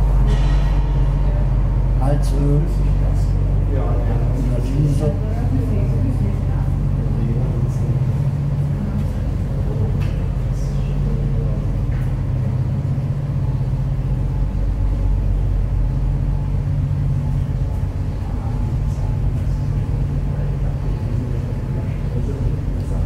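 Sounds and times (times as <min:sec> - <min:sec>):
barge diesel engine drone: 0:00.0 - 0:23.0.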